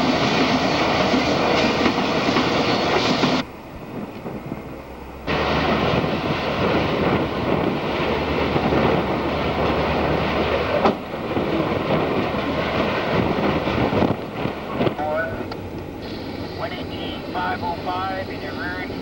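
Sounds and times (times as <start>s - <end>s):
freight train rolling: 0.0s - 19.0s.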